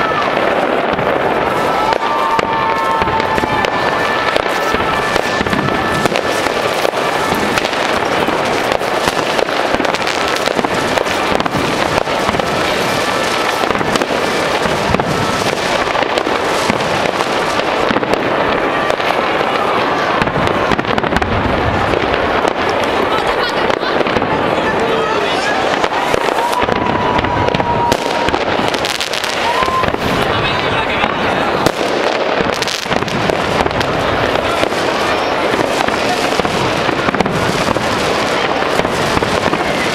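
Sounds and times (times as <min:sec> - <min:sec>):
faint firework whistling: 0:00.0 - 0:21.2, 0:25.0 - 0:39.9
fireworks bangs and crackles: 0:00.0 - 0:39.9.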